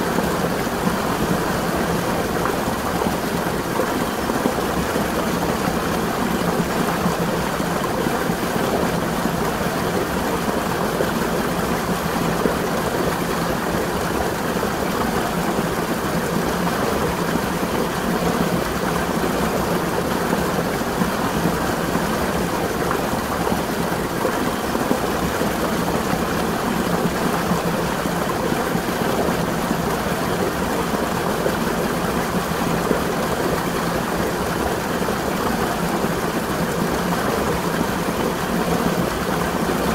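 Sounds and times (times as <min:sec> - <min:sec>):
spring water flowing and splashing: 0:00.0 - 0:39.9.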